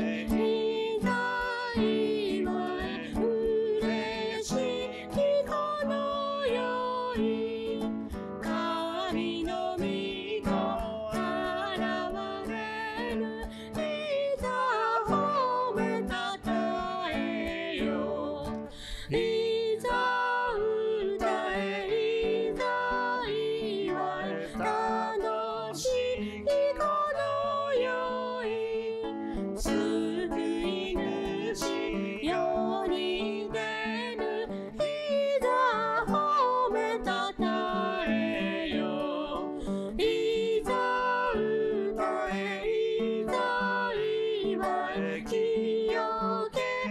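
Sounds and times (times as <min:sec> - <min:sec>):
acoustic guitar song: 0:00.0 - 0:46.9.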